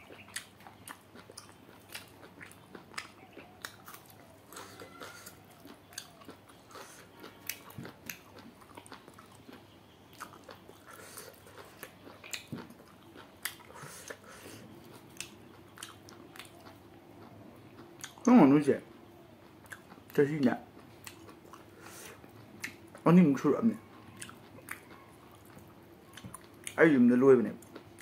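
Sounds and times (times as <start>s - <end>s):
person chewing food: 0.0s - 26.8s, 27.6s - 28.0s.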